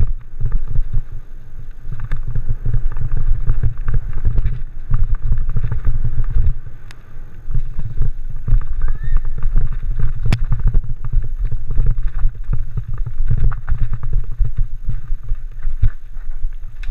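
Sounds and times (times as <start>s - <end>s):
bike rattling over rocks: 0.0s - 16.9s
wind and tyre rumble: 0.0s - 16.9s.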